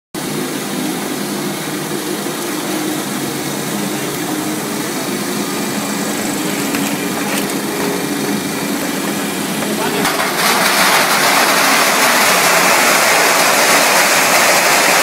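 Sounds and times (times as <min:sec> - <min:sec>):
machine motor hum: 0:00.2 - 0:15.0.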